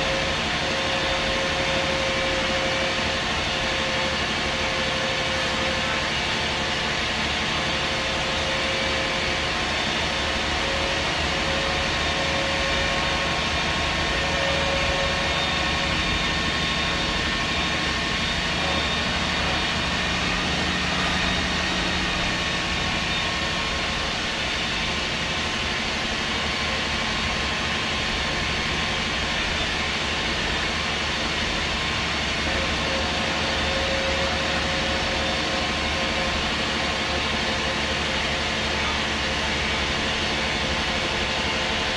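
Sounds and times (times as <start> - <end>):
bus engine rumbling: 0.0 - 41.9.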